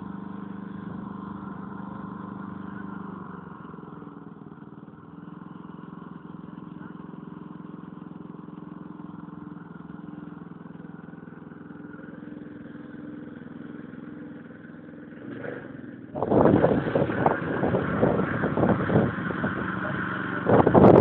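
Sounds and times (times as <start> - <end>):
garden tractor engine running: 0.0 - 21.0.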